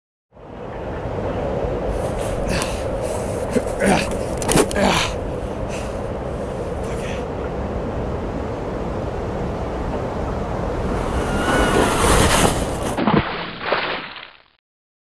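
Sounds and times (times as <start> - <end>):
wind rushing over microphone: 0.4 - 13.0.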